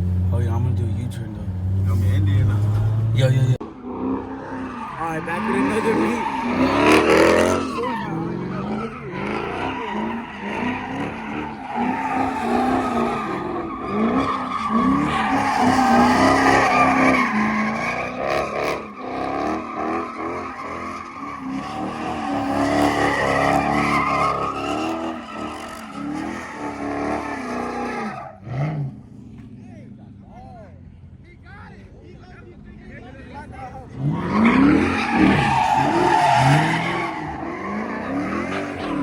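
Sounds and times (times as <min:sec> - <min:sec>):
car engine revving hard: 0:00.0 - 0:29.4, 0:33.9 - 0:39.0
tyres squealing and skidding: 0:00.0 - 0:30.9, 0:31.9 - 0:39.0.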